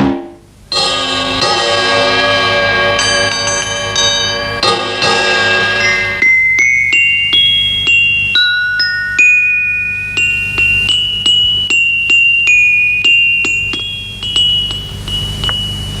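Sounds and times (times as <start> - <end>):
metal-bar instrument playing tune: 0.0 - 16.0.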